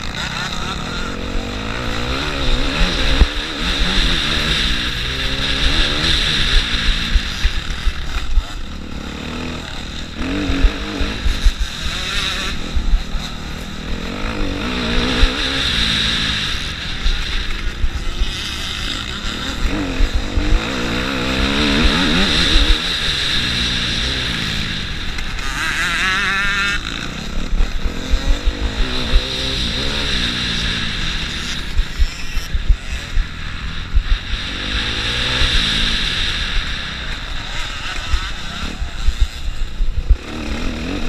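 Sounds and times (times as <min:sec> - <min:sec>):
constant low rumble: 0:00.0 - 0:41.0
motocross bike engine revving: 0:00.0 - 0:41.0.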